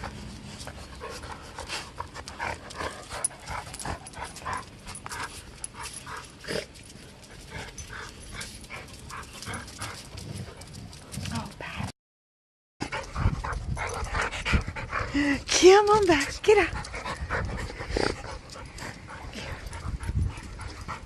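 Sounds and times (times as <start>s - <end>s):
dog panting: 0.0s - 10.8s, 12.8s - 21.0s.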